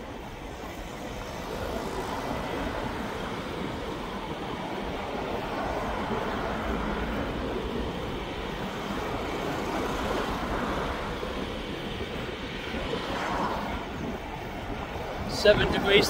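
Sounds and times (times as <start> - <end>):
tyres running on tarmac: 0.0 - 16.0
wind rushing over microphone: 0.0 - 16.0.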